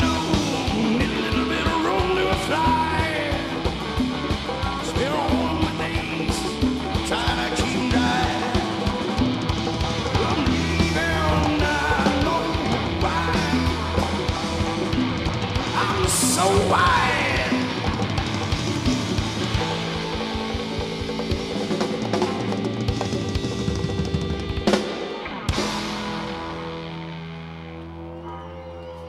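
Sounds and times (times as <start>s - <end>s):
electric guitar lead lines: 0.0s - 29.0s
rock band playing: 0.0s - 29.0s.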